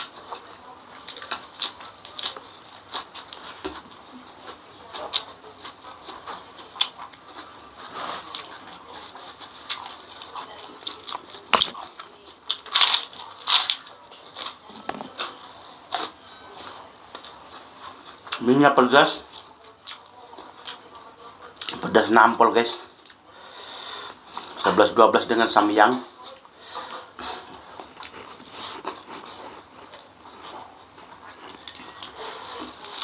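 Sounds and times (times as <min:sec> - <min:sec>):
person chewing crunchy food: 0:00.0 - 0:22.0, 0:25.9 - 0:33.0.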